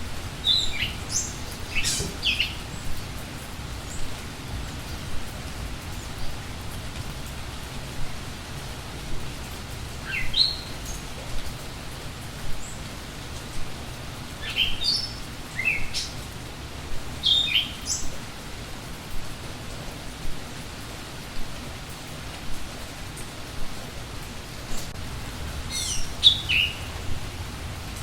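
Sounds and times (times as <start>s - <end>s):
rain hissing: 0.0s - 28.0s
songbirds chirping: 0.1s - 28.0s.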